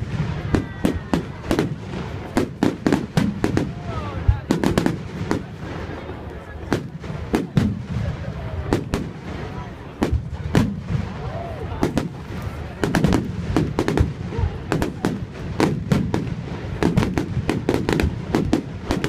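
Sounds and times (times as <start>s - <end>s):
crowd voices: 0.0s - 19.0s
fireworks bangs and cracks: 0.0s - 19.0s.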